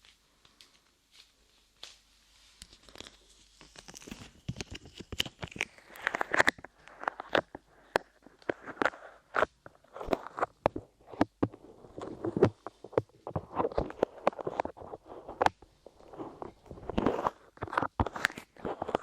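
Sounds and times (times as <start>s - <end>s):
clay squishing and crackling: 0.0s - 19.0s.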